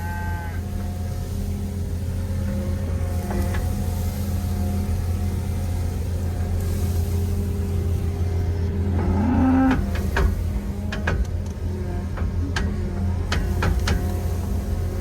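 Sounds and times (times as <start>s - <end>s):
farm machine engine idling: 0.3s - 15.0s.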